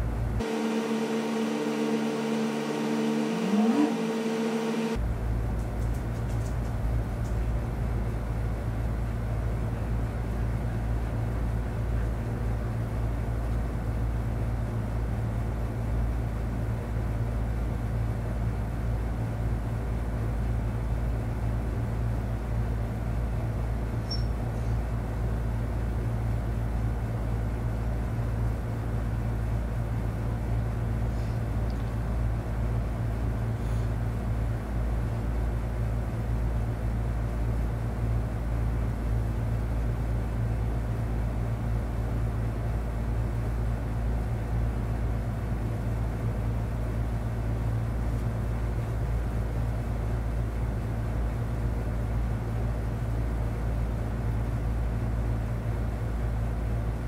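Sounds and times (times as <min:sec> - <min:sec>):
low room hum and rumble: 0:00.0 - 0:57.0.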